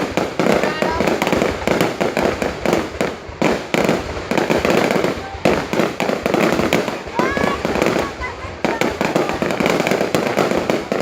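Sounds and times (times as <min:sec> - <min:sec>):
fireworks bangs and booms: 0:00.0 - 0:11.0.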